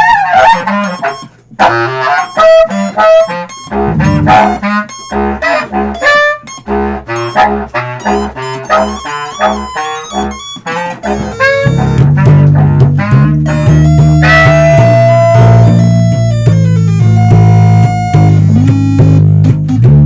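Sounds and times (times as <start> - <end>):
reedy wind instrument melody: 0.0 - 19.4
held low instrument part: 0.0 - 20.0
bass line in short notes: 0.5 - 20.0.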